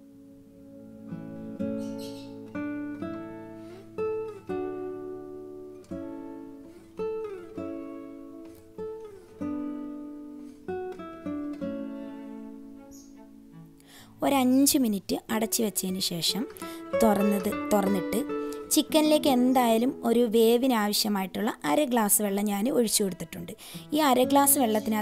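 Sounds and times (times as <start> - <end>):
plucked string instrument melody: 0.0 - 25.0.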